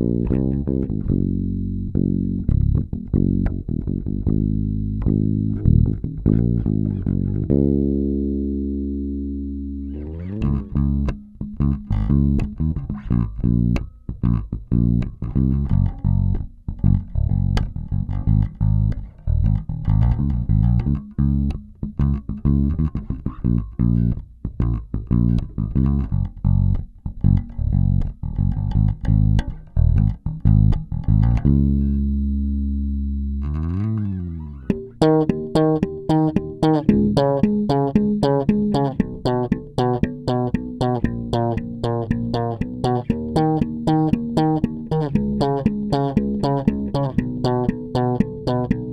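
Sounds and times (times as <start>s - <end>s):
electric bass riff: 0.0s - 48.9s.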